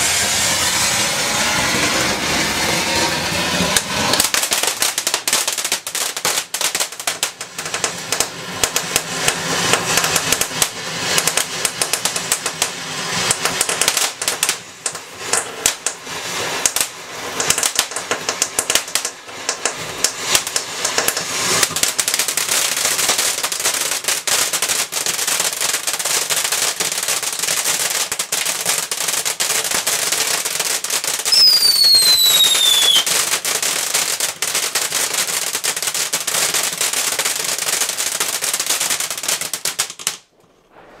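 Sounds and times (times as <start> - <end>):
falling firework whistle: 0.0 - 35.2, 40.3 - 41.0
firework fountains hissing and crackling: 0.0 - 41.0.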